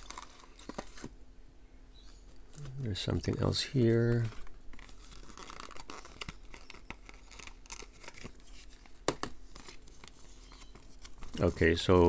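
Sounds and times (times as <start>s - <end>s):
paper and cardboard rustling: 0.0s - 1.2s, 2.5s - 12.0s.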